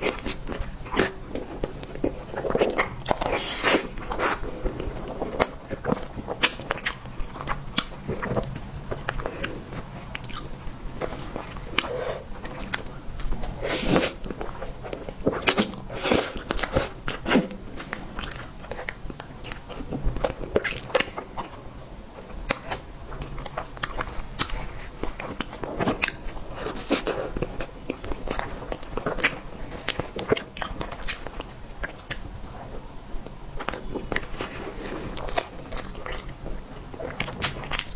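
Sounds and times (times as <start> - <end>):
person chewing food: 0.0 - 21.6, 22.2 - 37.9.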